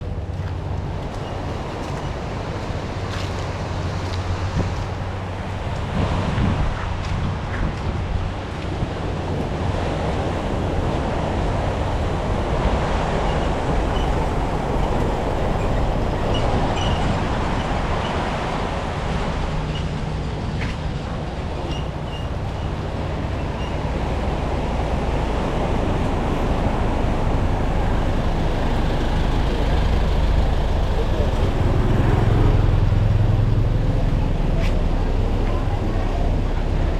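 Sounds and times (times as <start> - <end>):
road traffic rumble: 0.0 - 36.9.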